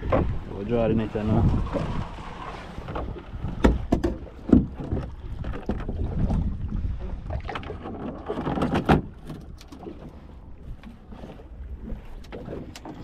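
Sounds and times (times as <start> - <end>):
net knocking and scraping on hull: 0.0 - 6.6, 7.3 - 13.0.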